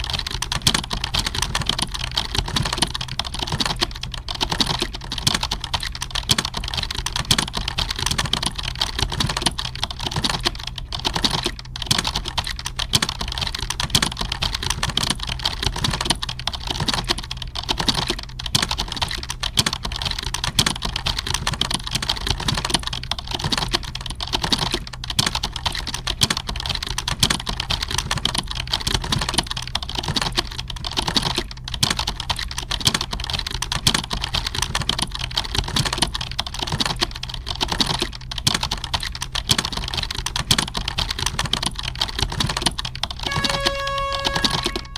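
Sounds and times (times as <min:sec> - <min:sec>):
computer keyboard typing: 0:00.0 - 0:44.9.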